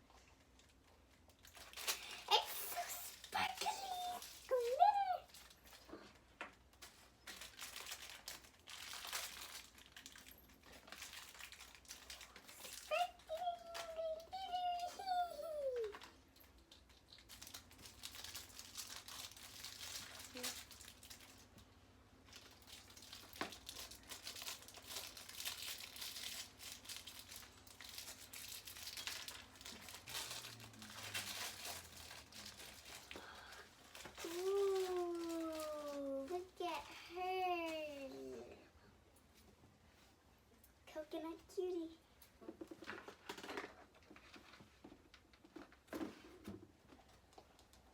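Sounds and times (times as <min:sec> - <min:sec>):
packaging crinkling and rustling: 0:00.4 - 0:38.0, 0:42.2 - 0:47.9.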